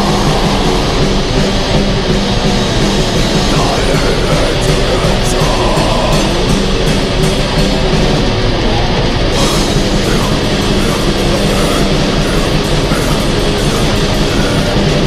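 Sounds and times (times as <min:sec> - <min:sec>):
distorted electric guitars: 0:00.0 - 0:15.0
drum kit: 0:00.0 - 0:15.0.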